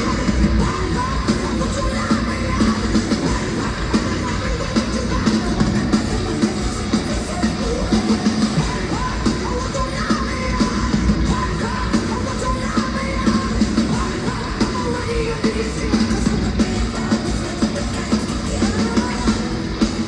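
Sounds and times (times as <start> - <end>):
distorted guitars: 0.0 - 20.0
heavy metal band playing: 0.0 - 20.0
person singing and yelling: 0.0 - 20.0
pounding drums: 0.0 - 20.0.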